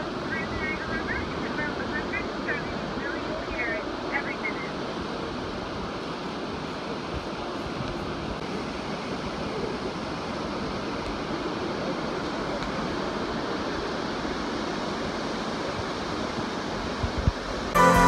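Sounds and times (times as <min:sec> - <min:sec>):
rushing whitewater rapids: 0:00.0 - 0:18.0.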